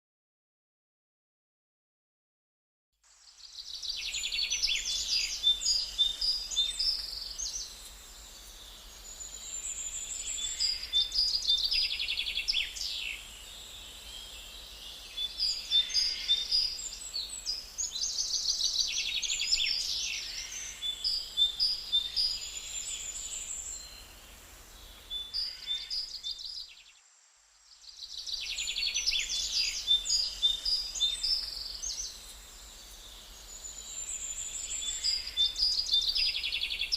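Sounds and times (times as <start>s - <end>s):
songbirds chirping and trilling: 3.1s - 27.0s, 27.7s - 36.9s.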